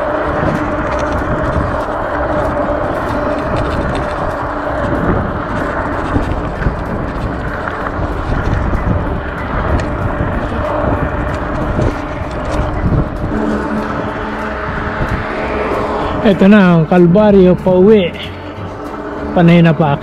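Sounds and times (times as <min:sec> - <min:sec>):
road noise from bicycle: 0:00.0 - 0:20.0
rushing wind: 0:00.0 - 0:20.0.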